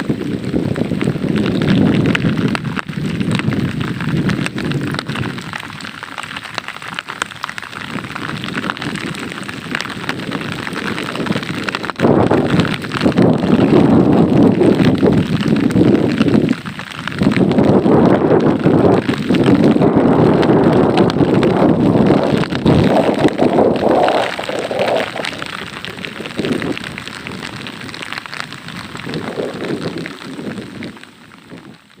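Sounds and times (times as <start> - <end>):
gusting wind: 0.0 - 32.0
heavy rain: 0.0 - 32.0.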